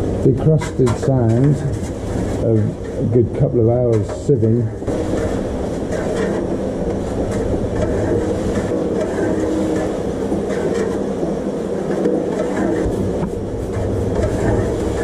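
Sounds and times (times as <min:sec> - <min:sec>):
sand mixer rumbling: 0:00.0 - 0:15.0.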